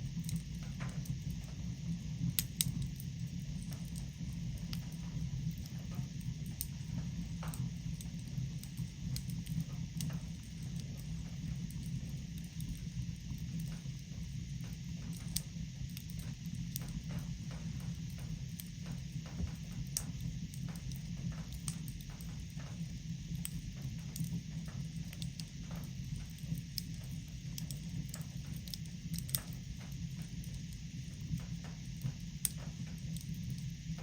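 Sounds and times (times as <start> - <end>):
fire crackling in fireplace: 0.0 - 34.0.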